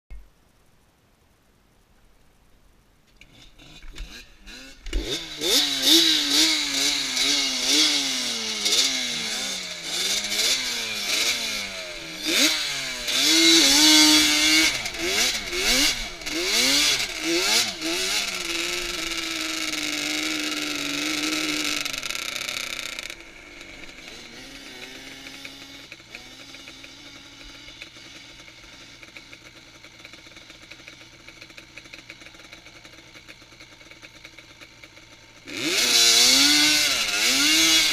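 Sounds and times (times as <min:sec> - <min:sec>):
atv engine revving: 0:03.2 - 0:37.9.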